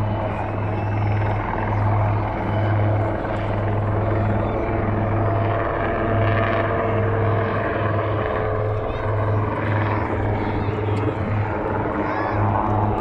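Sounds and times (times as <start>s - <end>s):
helicopter rotors hovering: 0.0s - 13.0s.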